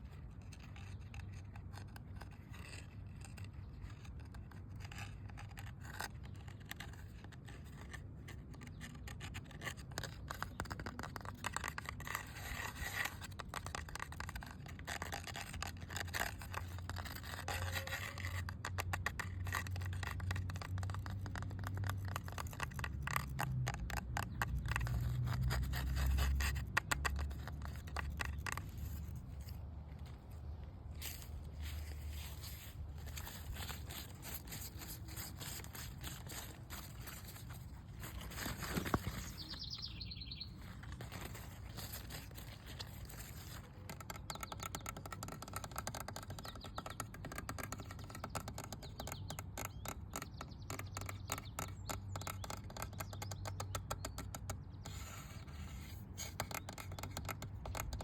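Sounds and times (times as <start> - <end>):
scratching on hard surface: 0.0 - 58.0.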